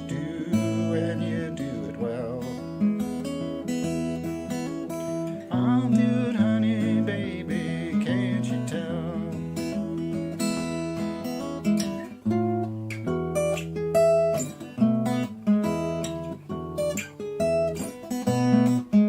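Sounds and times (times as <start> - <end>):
acoustic guitar plucked notes: 0.0 - 19.0.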